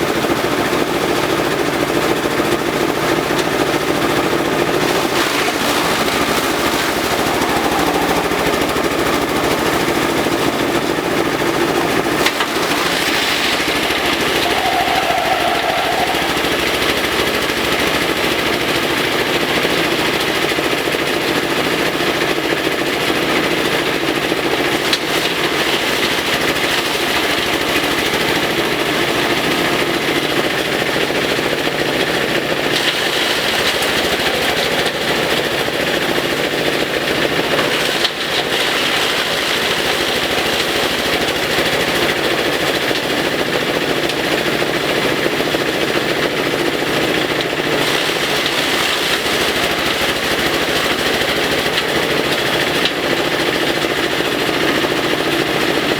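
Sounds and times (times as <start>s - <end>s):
shredder machine chopping grass: 0.0s - 55.9s.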